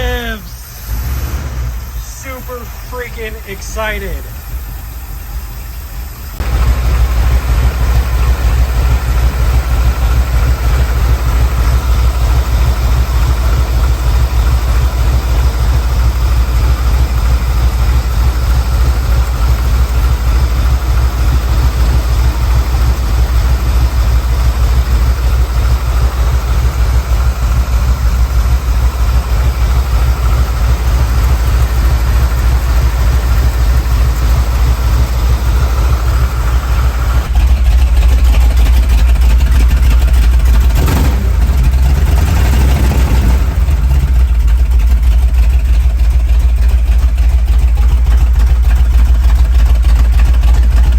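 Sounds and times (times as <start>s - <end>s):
car engine idling roughly: 0.0s - 50.9s.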